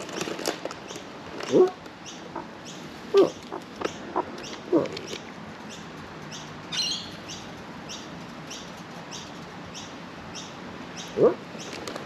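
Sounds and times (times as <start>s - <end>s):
small bird chirping: 0.8s - 11.8s.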